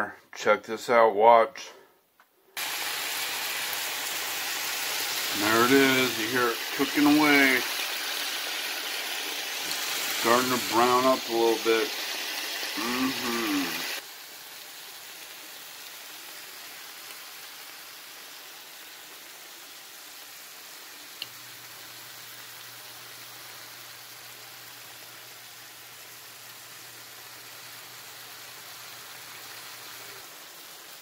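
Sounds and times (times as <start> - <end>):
food sizzling in a skillet: 2.6 - 31.0.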